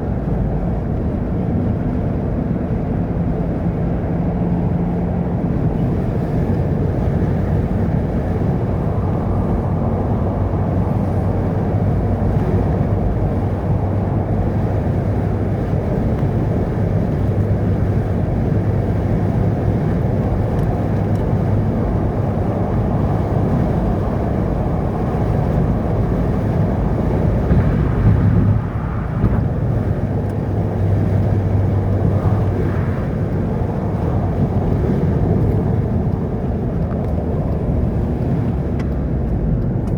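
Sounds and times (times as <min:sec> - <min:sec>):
low engine hum: 0:00.0 - 0:39.9
vehicle driving on road: 0:00.0 - 0:39.9.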